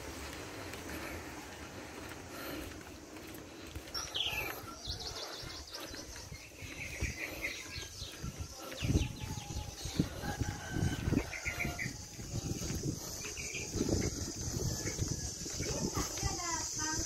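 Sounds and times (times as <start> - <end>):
footsteps on pavement: 0.0 - 17.0
small birds chirping: 0.1 - 17.0.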